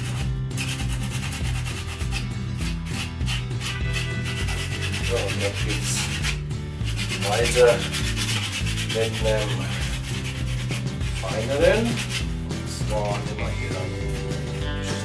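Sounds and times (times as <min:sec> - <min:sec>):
sandpaper rasping on cork: 0:00.0 - 0:13.3.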